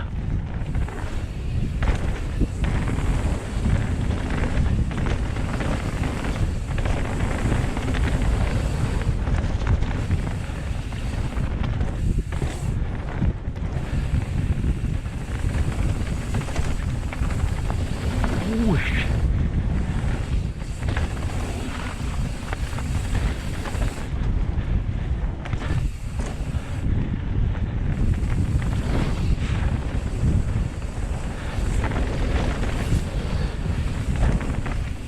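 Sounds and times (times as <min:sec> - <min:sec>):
tyres rumbling on dirt trail: 0:00.0 - 0:35.0
wind buffeting microphone: 0:00.0 - 0:35.0.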